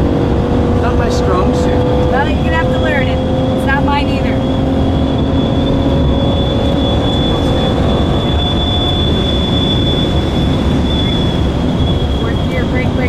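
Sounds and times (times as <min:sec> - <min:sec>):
car engine from inside cabin: 0:00.0 - 0:13.0
road and wind noise: 0:00.0 - 0:13.0
thin steady high whine: 0:01.3 - 0:13.0.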